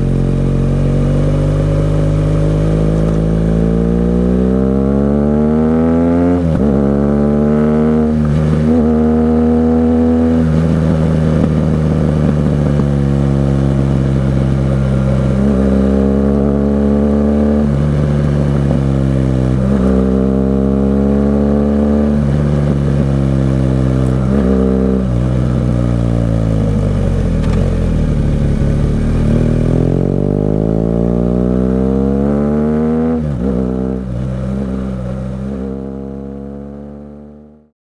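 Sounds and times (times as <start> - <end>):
motorcycle engine accelerating: 0.0 - 37.7.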